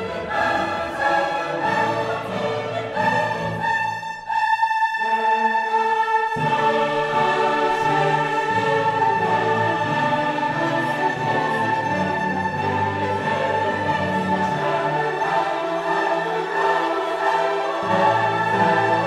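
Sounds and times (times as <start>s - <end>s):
orchestral choral music: 0.0s - 19.0s.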